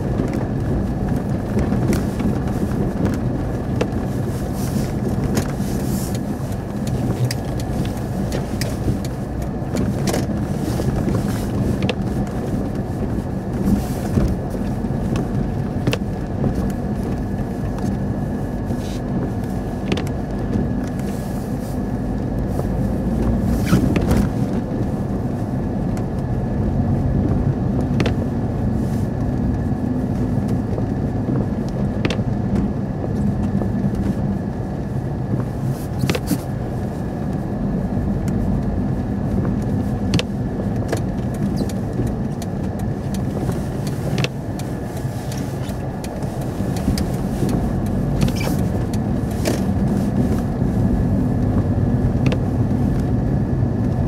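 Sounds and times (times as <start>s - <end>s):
car engine and tyre hum: 0.0s - 54.0s.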